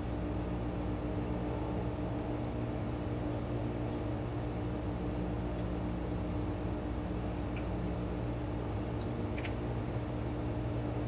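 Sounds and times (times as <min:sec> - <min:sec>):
ventilation fan hum: 0:00.0 - 0:11.0.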